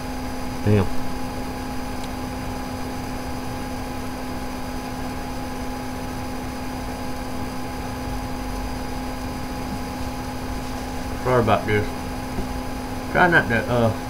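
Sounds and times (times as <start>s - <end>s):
room hum and hiss: 0.0s - 14.0s.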